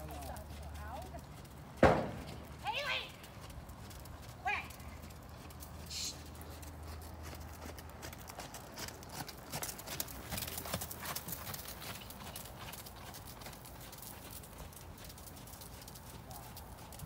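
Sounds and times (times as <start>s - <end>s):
horse hoofbeats: 0.0s - 17.0s.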